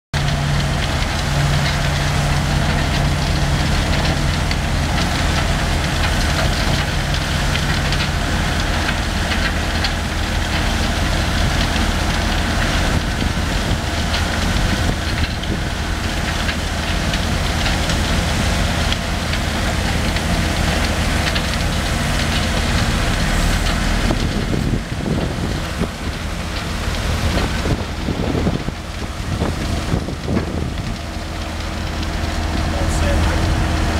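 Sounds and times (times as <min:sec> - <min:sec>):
diesel engines running: 0:00.2 - 0:33.9.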